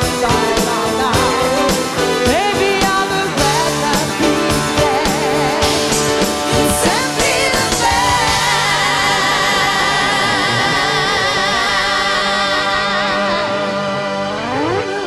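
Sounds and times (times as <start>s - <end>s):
band holding a long chord: 0.0s - 15.0s.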